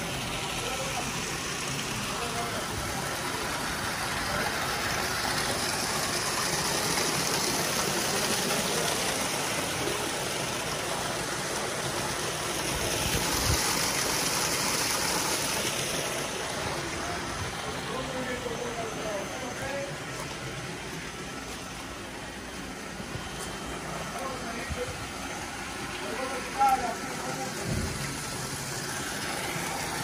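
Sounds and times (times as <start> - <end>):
water pouring and splashing: 0.0 - 30.0.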